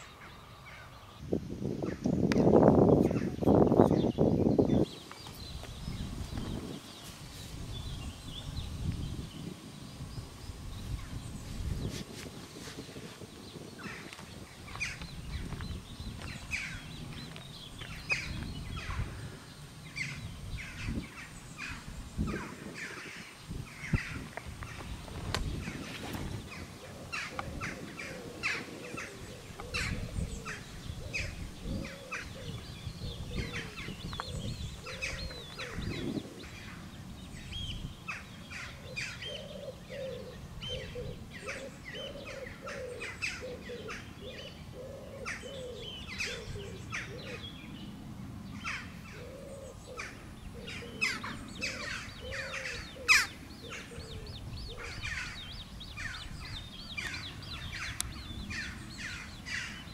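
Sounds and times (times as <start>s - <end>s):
lower repeated bird calls: 0.0s - 59.9s
songbirds chirping and singing: 0.0s - 59.9s.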